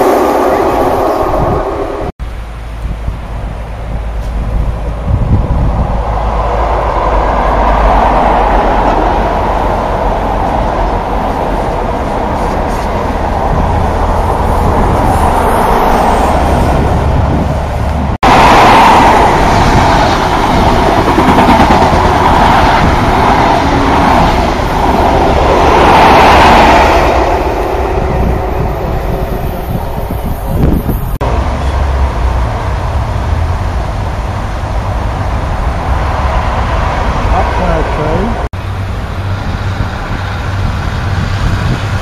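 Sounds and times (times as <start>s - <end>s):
diesel train engine: 0.0s - 42.0s
train wheels rumbling on rail: 0.0s - 42.0s.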